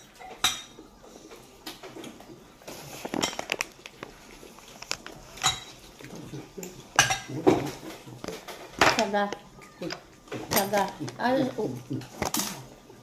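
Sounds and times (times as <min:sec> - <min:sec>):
crunching and chewing: 0:00.1 - 0:13.0.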